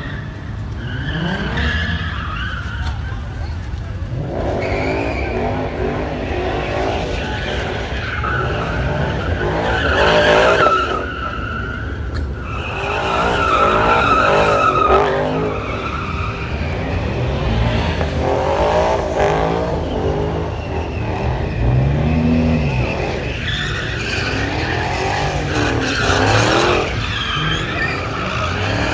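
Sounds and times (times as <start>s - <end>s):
tires screeching: 0.0s - 28.9s
car engine revving: 4.0s - 28.9s.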